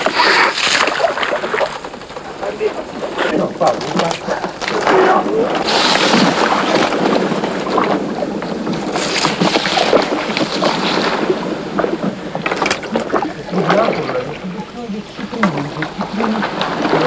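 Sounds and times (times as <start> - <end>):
reeds brushing against boat: 0.0 - 17.0
water rushing along boat hull: 0.0 - 17.0.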